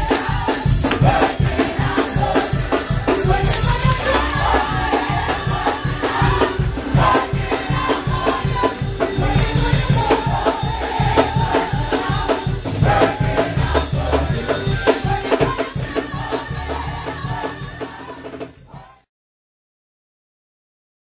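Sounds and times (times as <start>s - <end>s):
drums: 0.0s - 19.1s
gospel choir singing: 0.0s - 19.1s.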